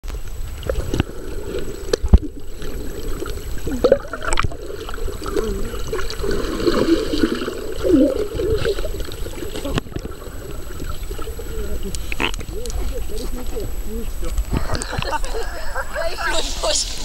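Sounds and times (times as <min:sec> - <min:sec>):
underwater rumble of moving water: 0:00.0 - 0:17.0
water gurgling: 0:00.0 - 0:17.0.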